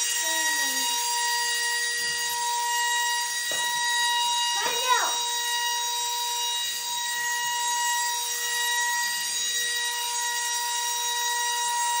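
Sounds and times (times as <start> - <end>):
suction fan high-pitched whine: 0.0 - 12.0.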